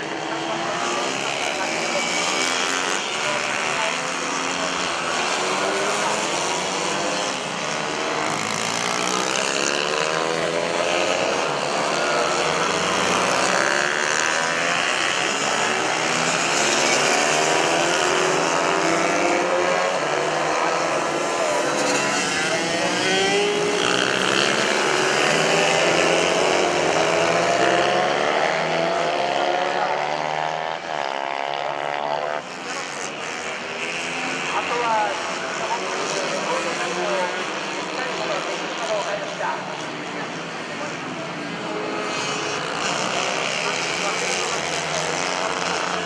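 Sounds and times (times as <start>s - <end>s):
mini bike engines revving: 0.0s - 46.0s.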